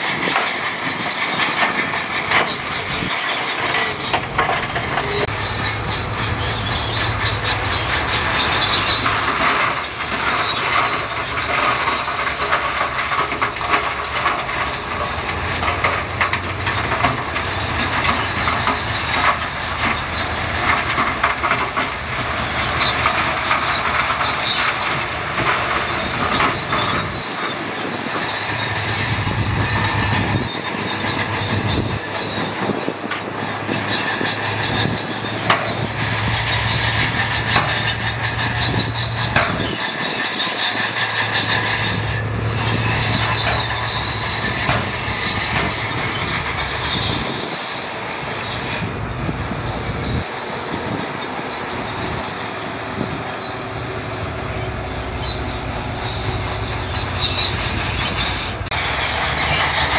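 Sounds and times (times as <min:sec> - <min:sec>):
diesel engine running: 0:00.0 - 0:59.9
steel tracks clanking and squealing: 0:00.0 - 0:59.9.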